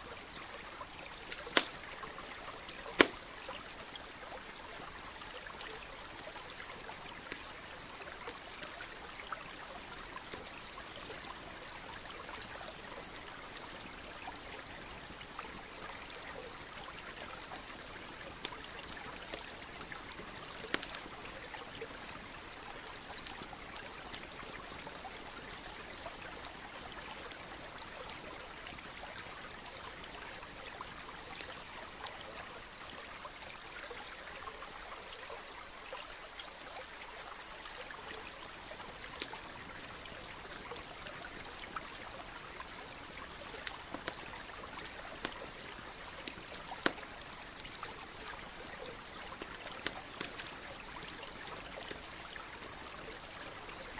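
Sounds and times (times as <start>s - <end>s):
campfire pops and crackles: 0.0s - 34.0s, 37.8s - 53.9s
stream running: 0.0s - 53.9s.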